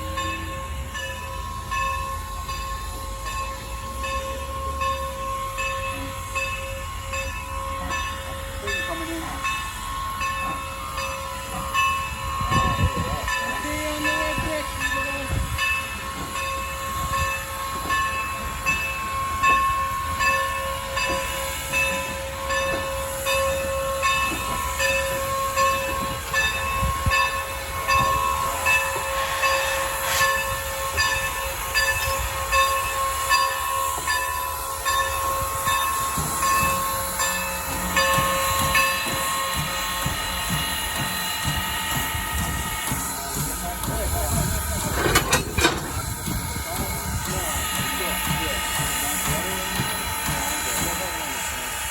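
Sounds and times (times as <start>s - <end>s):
steam locomotive pulsing whine: 0.0s - 51.9s.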